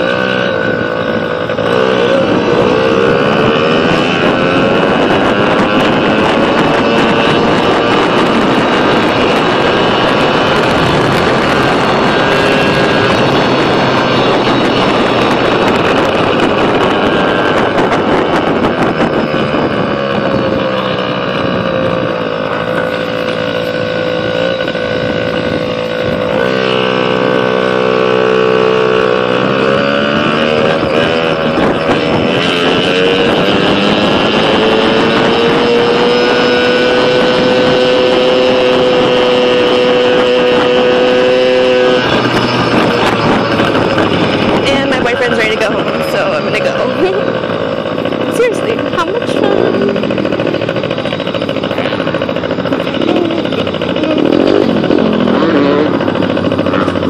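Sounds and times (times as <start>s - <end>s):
small motorbike engine running: 0.0s - 57.0s
wind on microphone: 0.0s - 57.0s.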